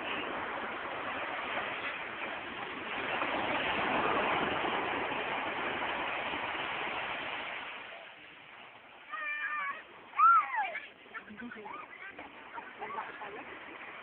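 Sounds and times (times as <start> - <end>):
surf washing on beach: 0.0 - 14.0.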